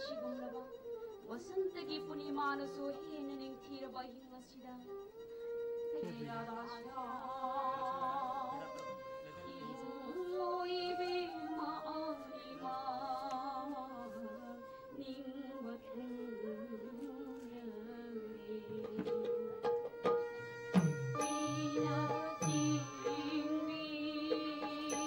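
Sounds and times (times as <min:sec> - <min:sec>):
held drone note: 0:00.0 - 0:17.5, 0:18.2 - 0:25.0
woman singing with vibrato: 0:00.0 - 0:19.6, 0:21.2 - 0:25.0.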